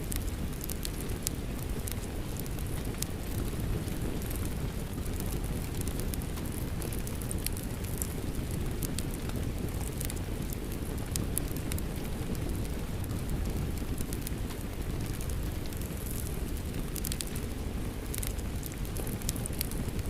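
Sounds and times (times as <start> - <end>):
sharp fire pops: 0.0 - 20.0
wood fire crackling: 0.0 - 20.0.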